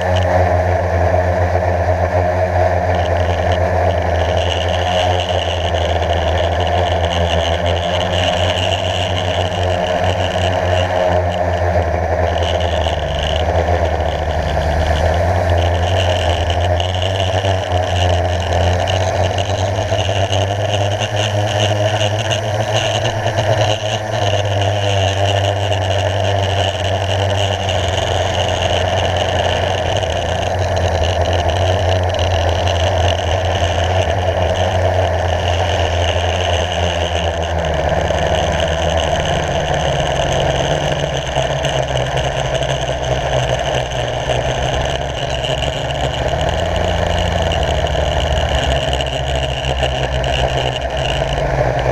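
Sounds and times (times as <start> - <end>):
quadcopter propellers whirring: 0.0 - 51.9.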